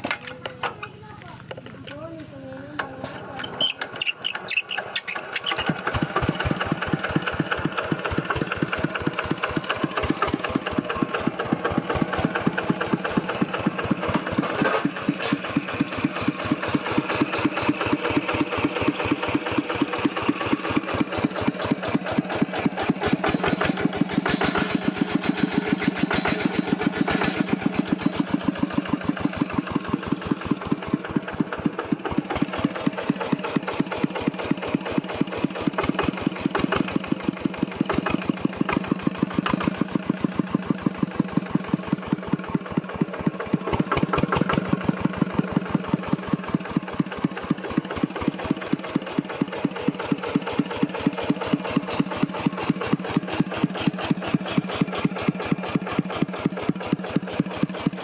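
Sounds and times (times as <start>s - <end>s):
diesel engine hand-cranked: 0.0s - 58.0s
diesel engine running steadily: 0.0s - 58.0s.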